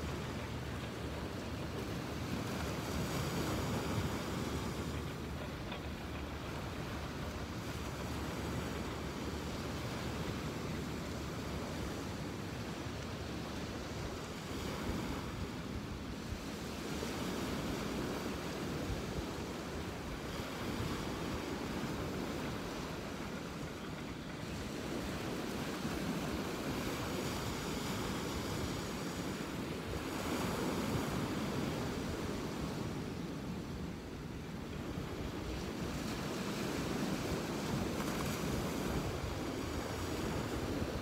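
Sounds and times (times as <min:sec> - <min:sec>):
ocean surf washing ashore: 0:00.0 - 0:41.0.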